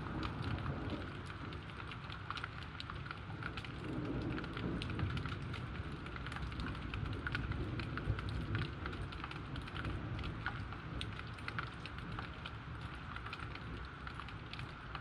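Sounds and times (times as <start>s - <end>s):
rain falling: 0.0s - 15.0s
sharp raindrop taps: 0.0s - 15.0s.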